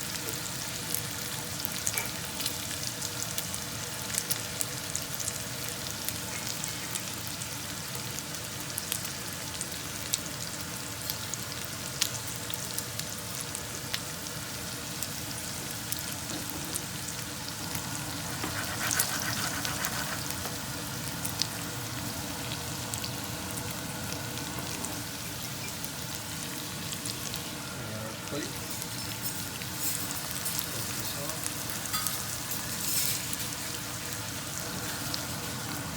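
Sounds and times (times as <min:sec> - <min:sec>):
chicken sizzling in a pan: 0:00.0 - 0:35.9.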